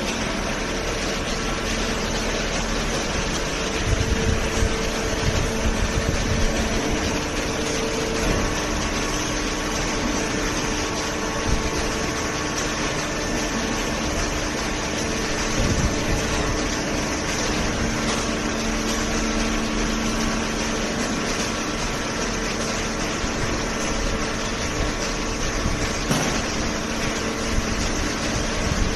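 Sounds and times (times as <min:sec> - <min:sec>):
baling machine humming: 0:00.0 - 0:28.9.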